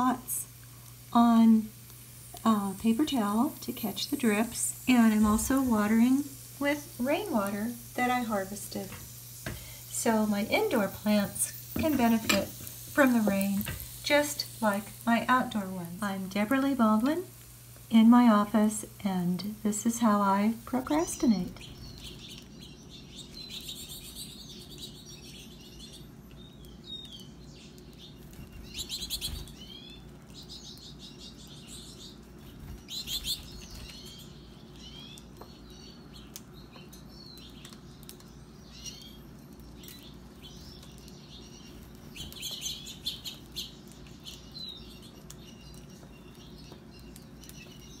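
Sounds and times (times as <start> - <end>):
small birds chirping: 0.0 - 48.0
steady low hum: 0.0 - 48.0.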